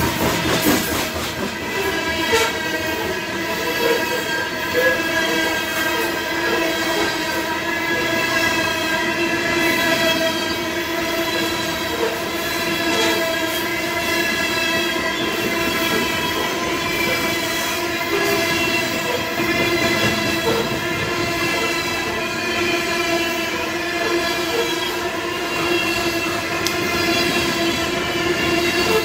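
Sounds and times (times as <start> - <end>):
train wheels rumbling on rail: 0.0 - 29.0
high ringing wheel squeal: 1.5 - 29.0.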